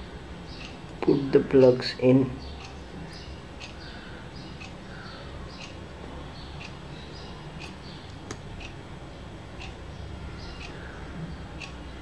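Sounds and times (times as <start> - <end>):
faint chirping: 0.0 - 12.0
low steady hum: 0.0 - 12.0.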